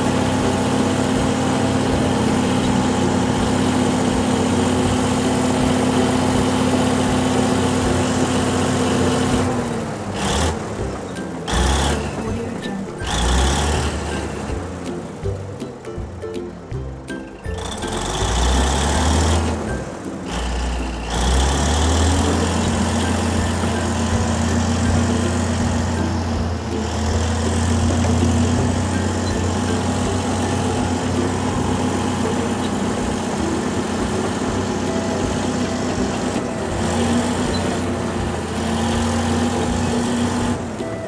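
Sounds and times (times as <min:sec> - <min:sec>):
low engine hum: 0:00.0 - 0:41.0.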